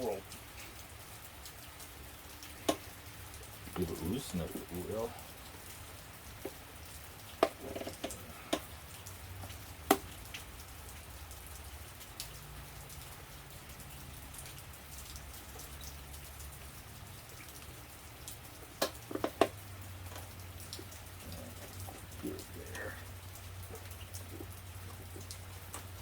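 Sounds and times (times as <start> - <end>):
rain patter: 0.0 - 26.0
water drips: 0.0 - 26.0.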